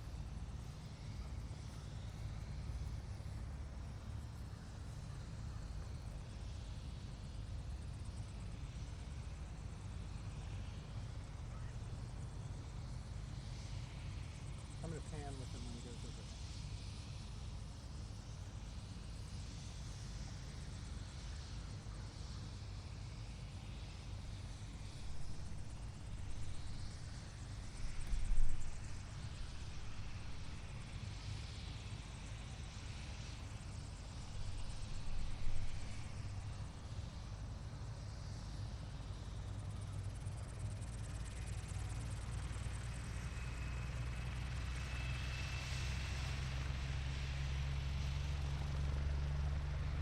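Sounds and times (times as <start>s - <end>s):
helicopter rotor drone: 0.0s - 50.0s.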